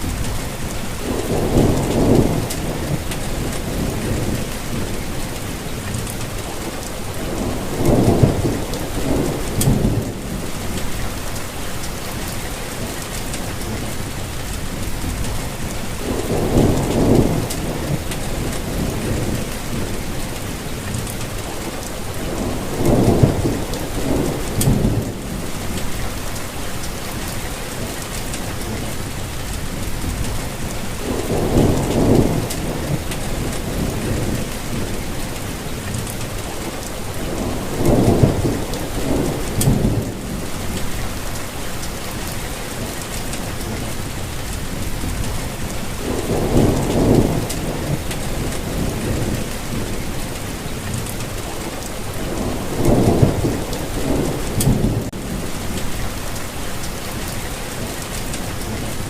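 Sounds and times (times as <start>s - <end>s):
thunder rumbling: 0.0s - 27.8s, 28.5s - 59.0s
rain on leaves: 0.0s - 59.0s.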